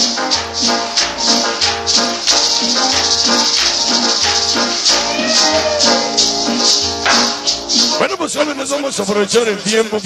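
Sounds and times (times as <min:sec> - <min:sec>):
cumbia music over loudspeakers: 0:00.0 - 0:10.0.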